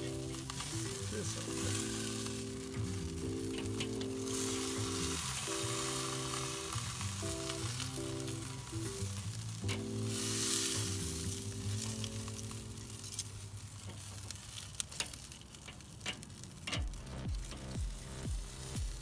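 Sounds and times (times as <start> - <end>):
background music sustained chords: 0.0 - 13.9, 16.8 - 19.0
chicken sizzling on grill: 0.0 - 19.0.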